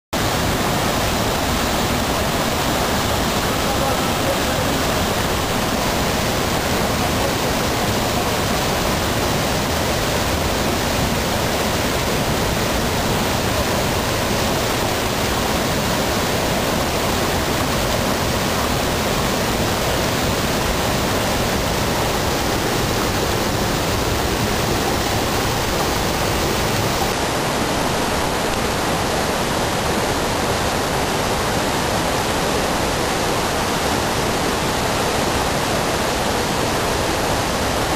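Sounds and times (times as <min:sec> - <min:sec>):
river rapids roaring: 0:00.2 - 0:37.9.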